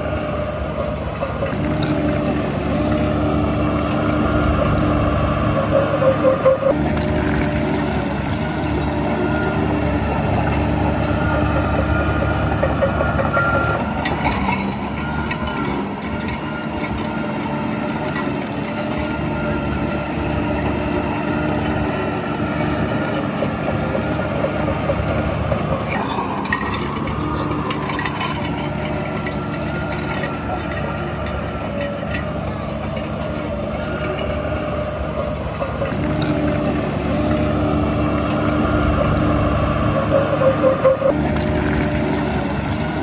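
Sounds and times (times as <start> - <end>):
heavy diesel machinery running: 0.0 - 43.0.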